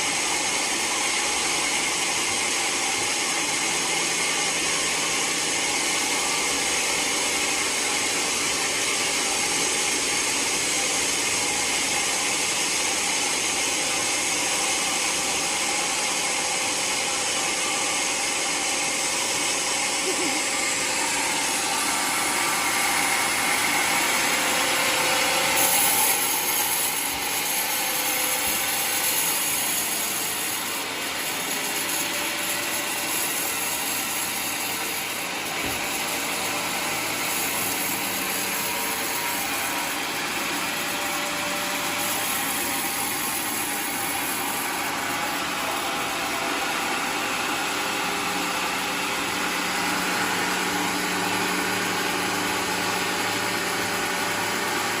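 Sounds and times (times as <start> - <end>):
sawmill sawing log: 0.0 - 55.0.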